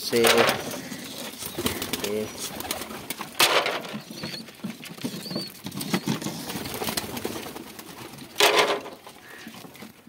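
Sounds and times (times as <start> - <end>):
pigeons cooing: 0.0 - 10.0
knocks and rustles: 0.1 - 1.8, 2.5 - 10.0.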